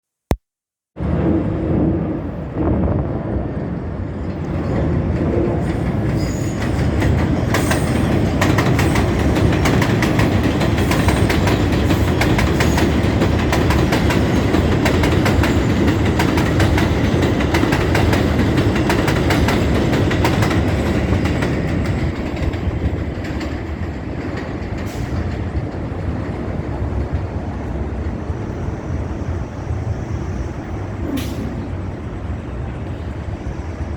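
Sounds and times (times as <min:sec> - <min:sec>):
subway train wheels clattering: 0:01.0 - 0:33.9
train rumble: 0:01.0 - 0:33.9.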